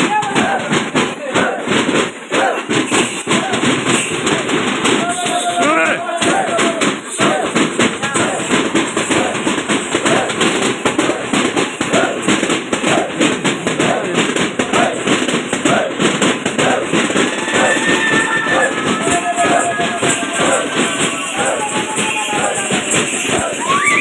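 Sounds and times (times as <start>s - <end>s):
frame drums beaten in fast rhythm: 0.0s - 24.0s.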